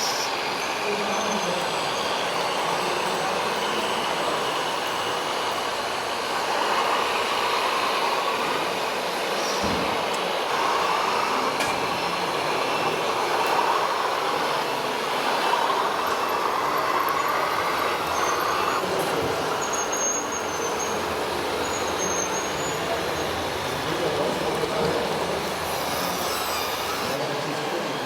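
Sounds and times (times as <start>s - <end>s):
small electric motors whining: 0.0s - 27.9s.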